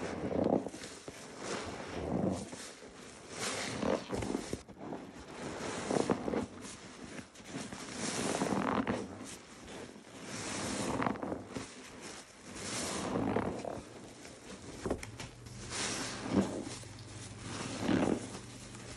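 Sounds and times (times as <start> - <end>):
sponge squelching in soap suds: 0.0 - 18.9.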